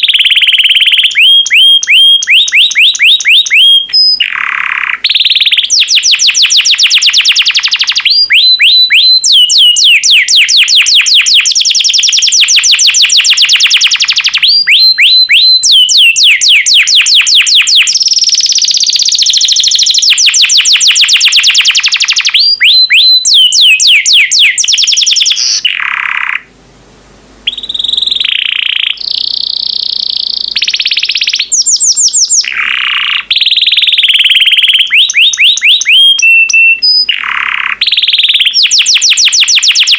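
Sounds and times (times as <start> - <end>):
canary singing trills: 0.0 - 26.5, 27.4 - 39.9.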